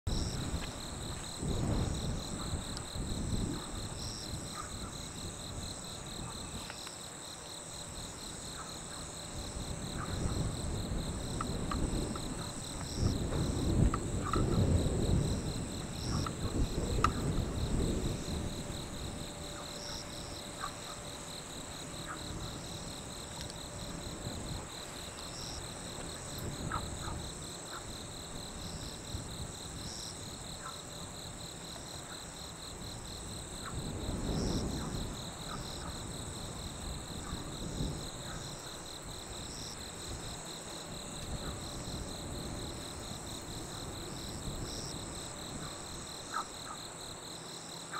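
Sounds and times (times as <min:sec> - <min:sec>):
high-pitched insect trill: 0:00.1 - 0:47.9.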